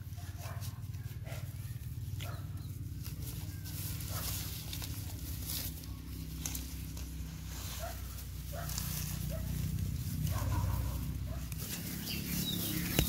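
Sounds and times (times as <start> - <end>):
low steady hum: 0.0 - 12.8.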